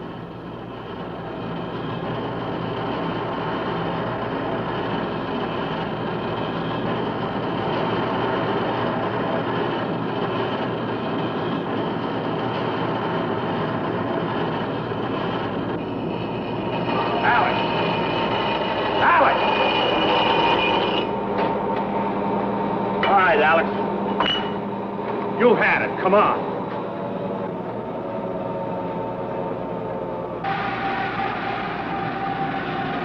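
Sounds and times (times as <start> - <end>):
heavy workshop machinery running: 0.0 - 33.0.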